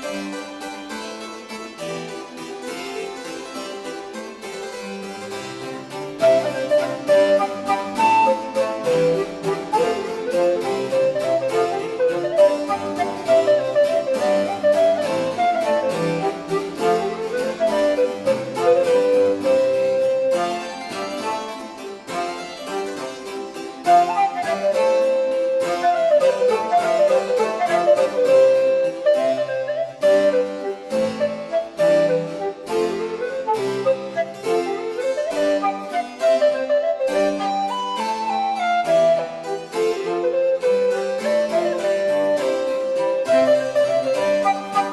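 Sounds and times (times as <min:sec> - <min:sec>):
harpsichord playing quick notes: 0:00.0 - 0:44.9.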